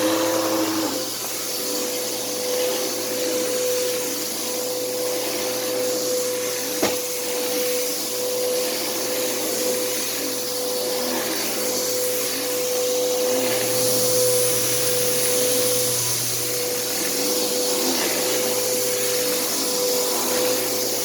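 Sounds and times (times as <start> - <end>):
vacuum cleaner running over carpet: 0.0 - 21.0.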